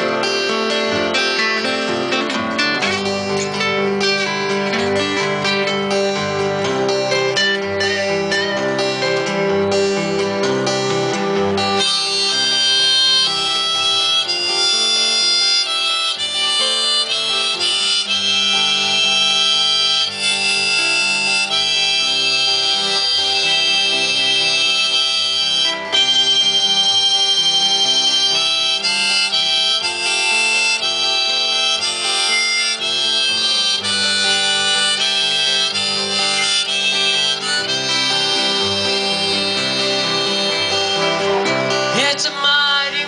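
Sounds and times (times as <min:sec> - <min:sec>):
acoustic guitars strumming: 0:00.0 - 0:43.0
bass line: 0:00.0 - 0:43.0
harmonica solo: 0:00.0 - 0:43.0.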